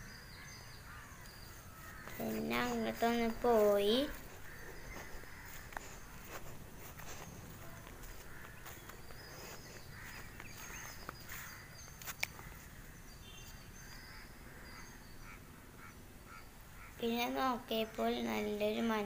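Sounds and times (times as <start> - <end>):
faint open-air ambience: 0.0 - 19.0.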